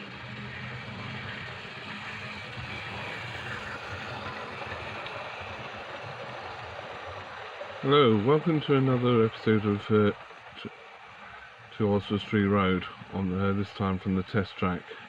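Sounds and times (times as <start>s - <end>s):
model locomotive running: 0.0s - 15.0s.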